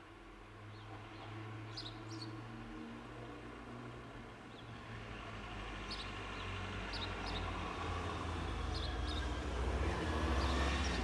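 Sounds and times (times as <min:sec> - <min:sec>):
road traffic rumble: 0:00.8 - 0:11.0.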